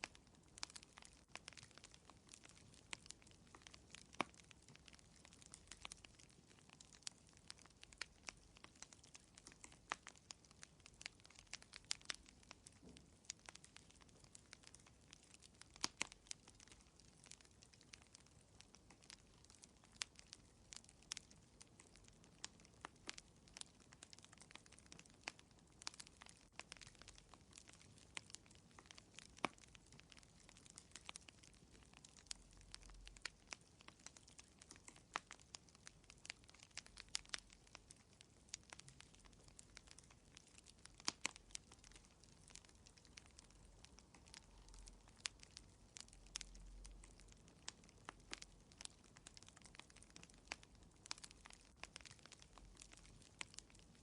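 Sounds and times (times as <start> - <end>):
faint low hiss: 0.0 - 54.0
fire crackling and popping: 0.0 - 54.0.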